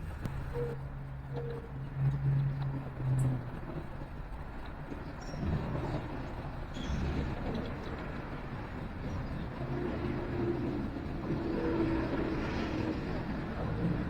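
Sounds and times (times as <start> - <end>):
road noise rumble: 0.0 - 14.0
vehicle engine hum: 0.0 - 14.0.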